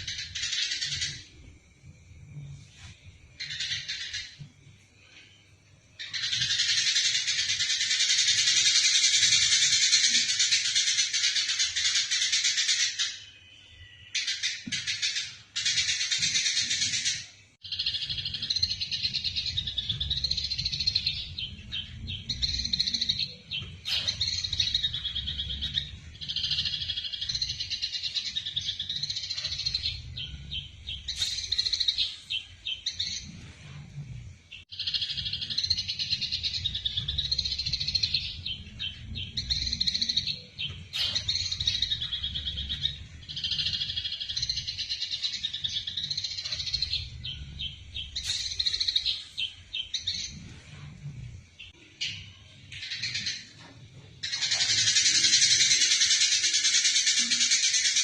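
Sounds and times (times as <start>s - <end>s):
sparrows chirping: 0.0s - 1.5s, 2.3s - 58.0s.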